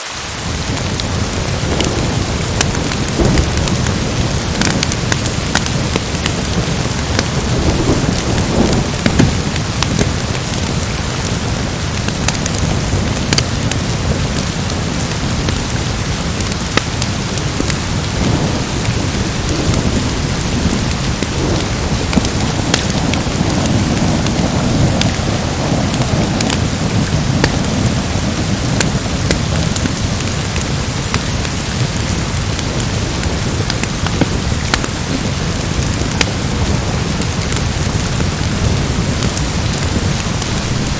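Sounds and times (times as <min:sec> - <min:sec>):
heavy rain: 0:00.0 - 0:40.9
sharp crackles: 0:00.1 - 0:40.9
thunder rumbling: 0:00.4 - 0:40.9.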